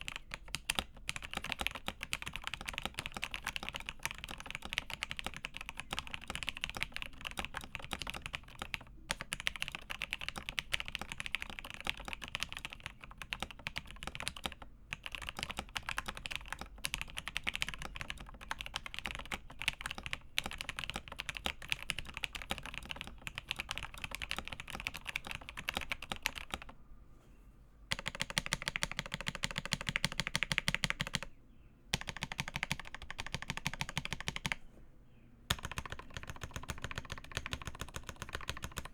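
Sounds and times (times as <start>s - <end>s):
fast typing on mechanical keyboard: 0.0s - 26.7s, 27.9s - 31.3s, 31.9s - 34.6s, 35.5s - 38.9s.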